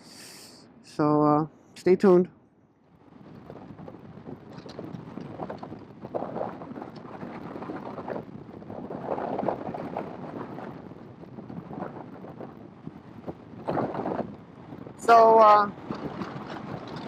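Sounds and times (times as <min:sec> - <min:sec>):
wind rushing over microphone: 0:01.9 - 0:17.0
motorcycle running: 0:03.0 - 0:17.0.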